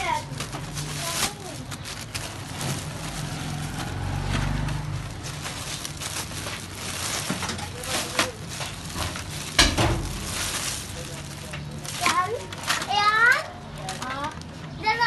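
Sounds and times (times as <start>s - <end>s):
plastic wrap crinkling: 0.0s - 14.6s.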